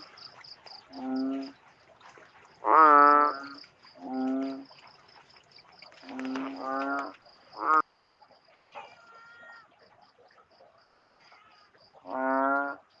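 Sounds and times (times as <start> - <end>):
frogs calling: 0.0 - 13.0
insect chirping: 0.0 - 13.0.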